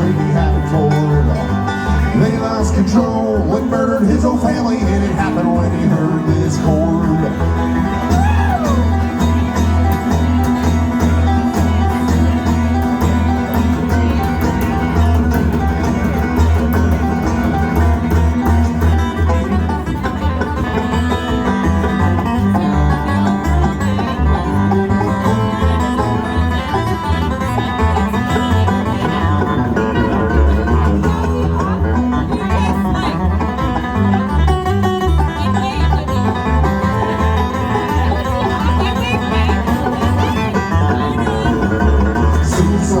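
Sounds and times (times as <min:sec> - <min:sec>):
banjo picking: 0:00.0 - 0:43.0
bluegrass band playing: 0:00.0 - 0:43.0
pulsing bass line: 0:00.0 - 0:43.0.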